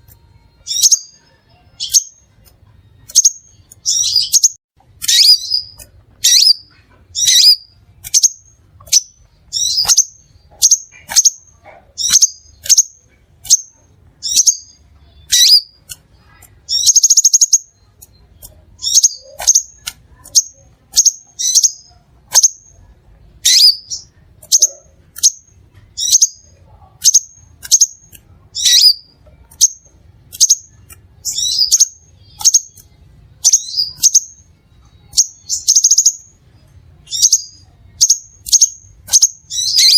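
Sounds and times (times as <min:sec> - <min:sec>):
bird chirping: 0:00.0 - 0:39.9
buzzy bird trill: 0:00.0 - 0:39.9.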